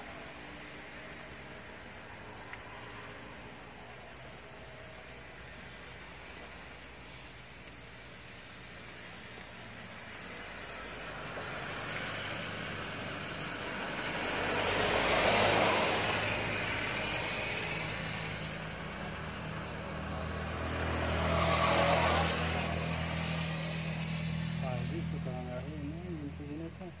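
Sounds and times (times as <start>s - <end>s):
low engine drone: 0.0s - 27.0s
tyres hissing on wet road: 0.0s - 27.0s.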